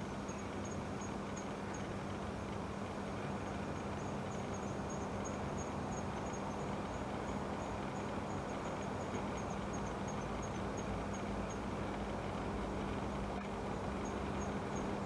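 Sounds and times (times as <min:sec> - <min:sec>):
insects chirping: 0:00.0 - 0:11.9, 0:13.6 - 0:15.0.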